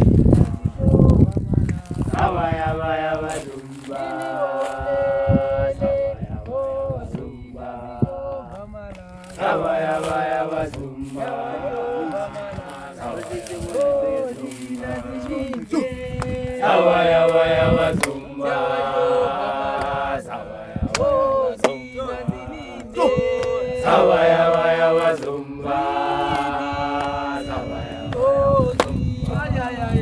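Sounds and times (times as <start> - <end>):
young men chanting: 0.5 - 30.0.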